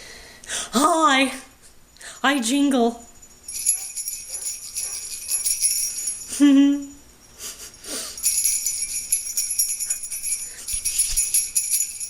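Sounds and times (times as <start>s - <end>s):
jingle bells shaking: 2.2s - 12.0s.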